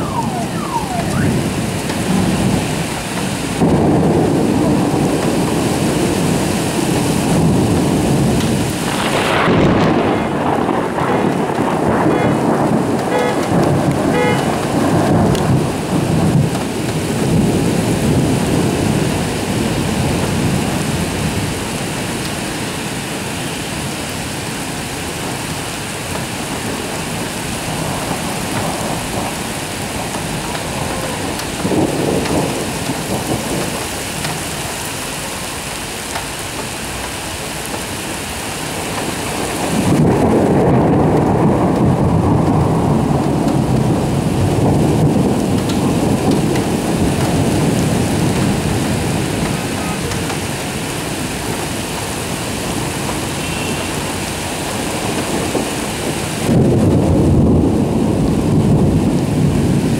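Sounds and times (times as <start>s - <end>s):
hard rain hissing: 0.0s - 59.9s
thunder rolling: 0.0s - 59.9s.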